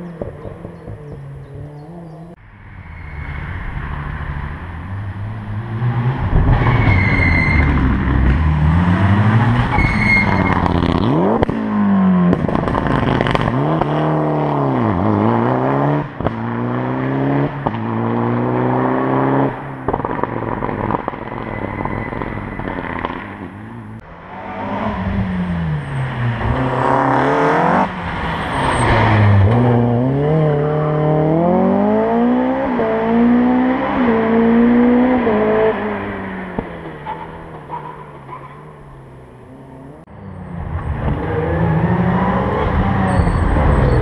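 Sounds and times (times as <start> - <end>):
rally car engine revving: 3.8 - 44.0.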